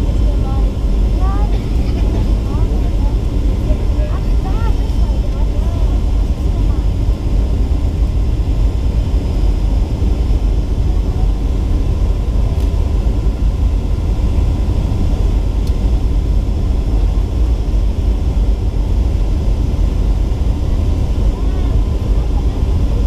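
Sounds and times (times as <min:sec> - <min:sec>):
airplane cabin engine rumble: 0:00.0 - 0:23.0.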